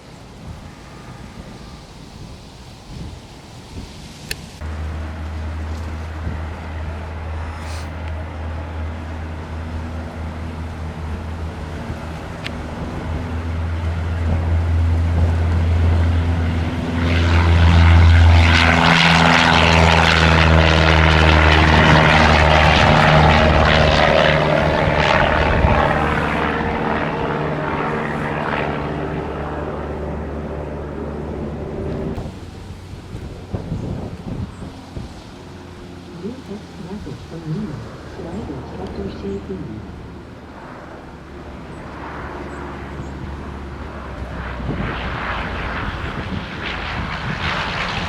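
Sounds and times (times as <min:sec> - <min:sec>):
propeller airplane engine passing: 0:00.0 - 0:48.0.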